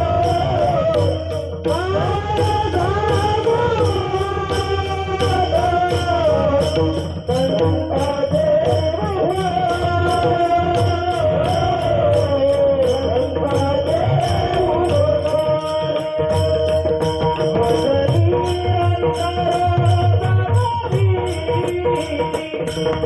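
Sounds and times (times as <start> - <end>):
drum: 0.0 - 23.0
hand cymbals struck: 0.0 - 23.0
voices singing: 0.0 - 23.0.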